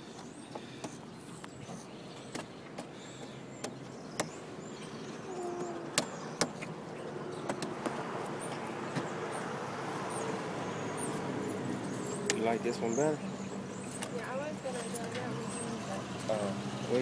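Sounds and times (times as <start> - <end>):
outdoor traffic noise: 0.0 - 17.0.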